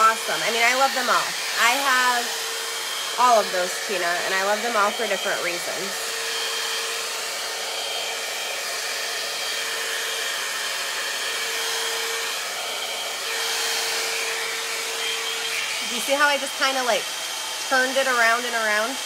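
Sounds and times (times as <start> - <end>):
hot-air brush blowing air: 0.0 - 19.0.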